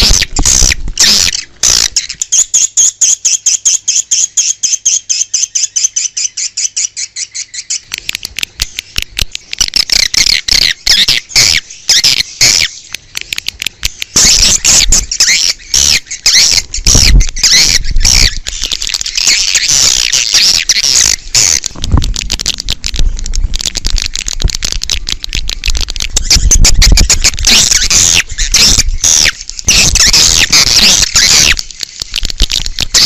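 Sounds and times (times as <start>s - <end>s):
swiftlets chirping and twittering: 0.0s - 33.0s.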